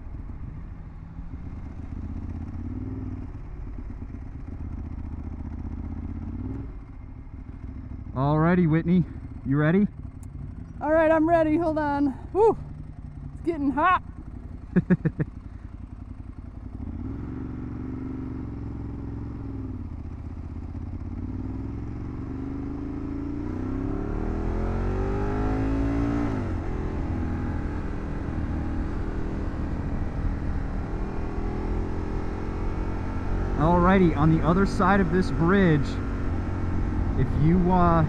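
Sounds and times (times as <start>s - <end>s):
motorcycle engine accelerating hard: 0.0s - 38.0s.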